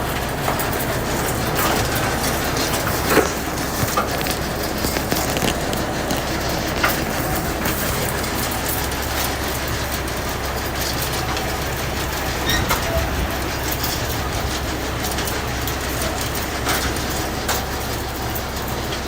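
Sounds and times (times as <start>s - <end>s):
harvester mechanical rumble and rattle: 0.0s - 19.0s.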